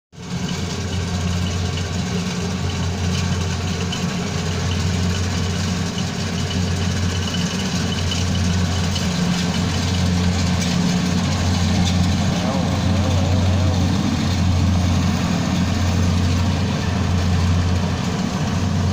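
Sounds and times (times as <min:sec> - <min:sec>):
diesel engine droning: 0:00.2 - 0:18.9.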